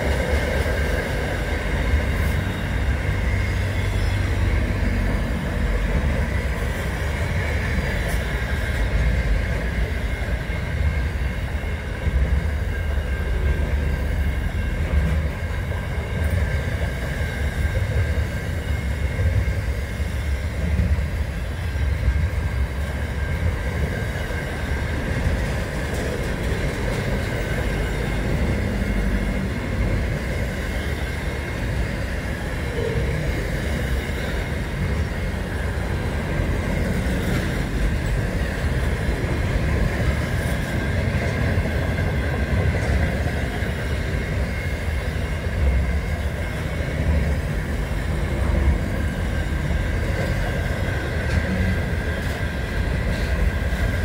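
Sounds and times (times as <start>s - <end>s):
freight wagons rumbling on rails: 0.0s - 54.0s.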